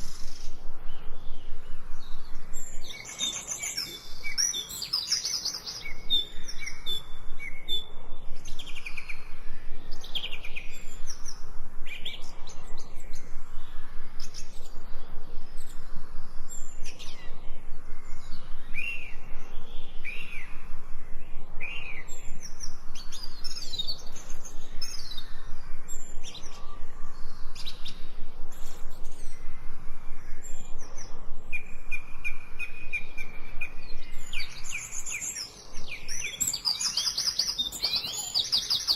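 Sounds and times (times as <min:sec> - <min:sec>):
birds chirping and singing: 0:00.0 - 0:38.9
faint outdoor hiss: 0:00.0 - 0:38.9.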